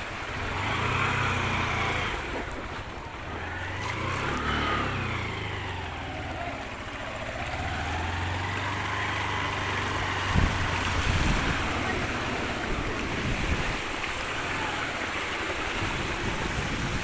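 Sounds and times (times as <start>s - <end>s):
motor engine running: 0.0s - 17.0s
rushing floodwater: 0.0s - 17.0s.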